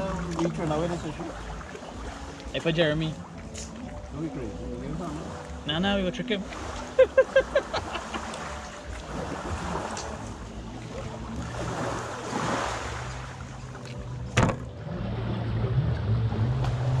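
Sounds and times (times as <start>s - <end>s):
waves lapping at shore: 0.0s - 15.1s.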